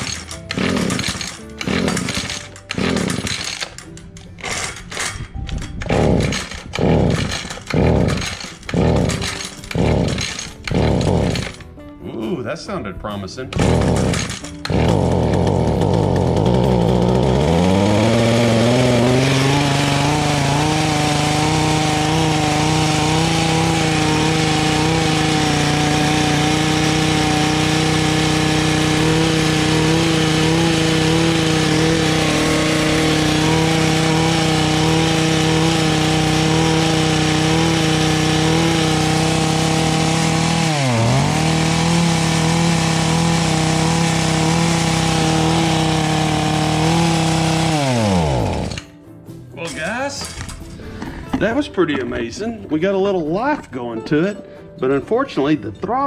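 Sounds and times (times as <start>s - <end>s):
hedge trimmer engine revving: 0.0s - 11.7s, 13.5s - 48.9s.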